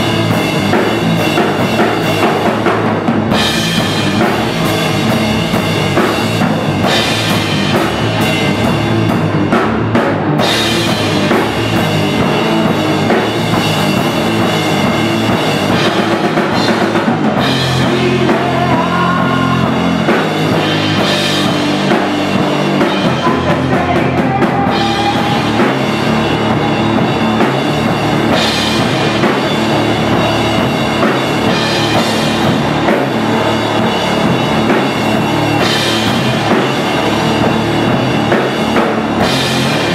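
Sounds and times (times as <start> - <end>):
drum kit played hard: 0.0 - 39.9.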